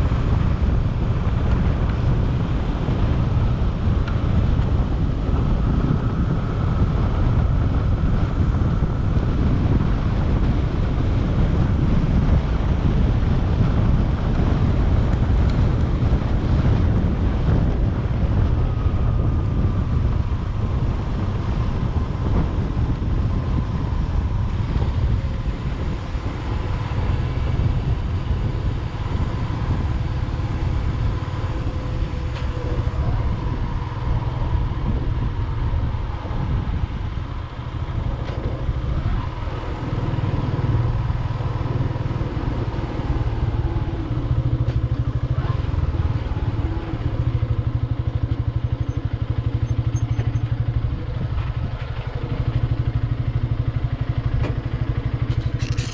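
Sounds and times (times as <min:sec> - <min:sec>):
motorcycle engine rumble: 0:00.0 - 0:55.9.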